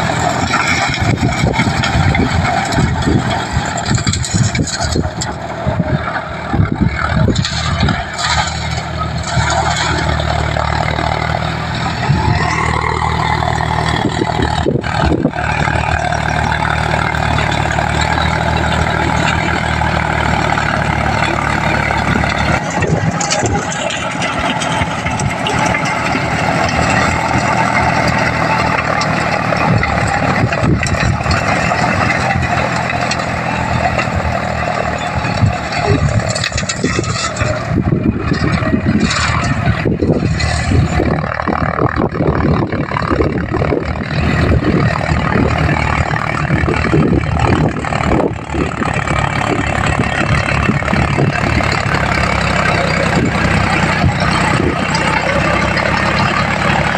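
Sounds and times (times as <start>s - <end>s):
tiller blades churning soil: 0.0s - 56.9s
tractor diesel engine running: 0.0s - 56.9s.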